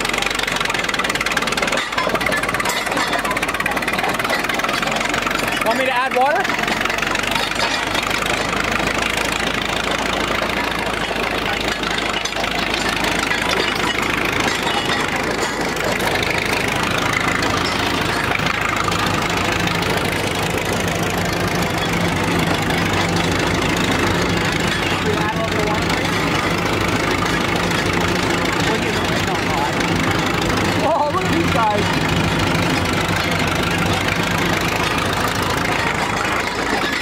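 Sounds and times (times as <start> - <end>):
heavy machine engine humming: 0.0 - 37.0.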